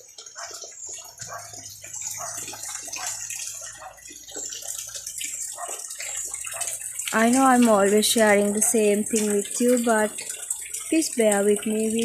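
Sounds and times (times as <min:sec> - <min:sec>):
rain falling and dripping: 0:00.0 - 0:12.0.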